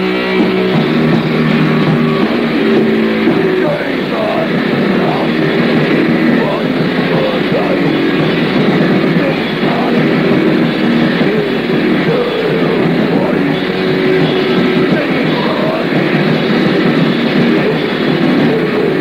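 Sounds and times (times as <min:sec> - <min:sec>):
heavy metal music: 0:00.0 - 0:19.0.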